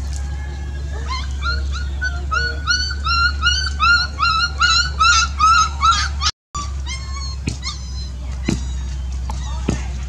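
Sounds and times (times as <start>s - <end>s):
puppy yelping: 1.0s - 10.0s.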